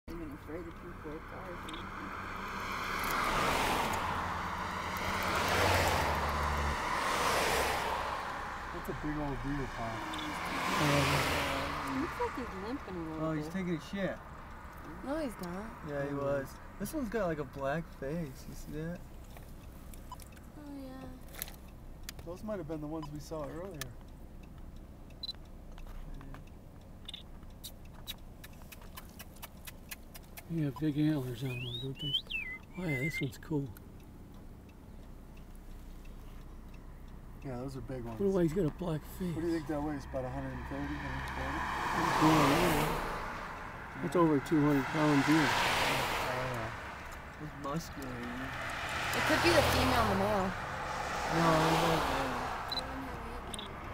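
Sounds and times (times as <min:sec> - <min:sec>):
passing road traffic: 0:00.0 - 0:53.9
car engine idling: 0:00.1 - 0:53.9.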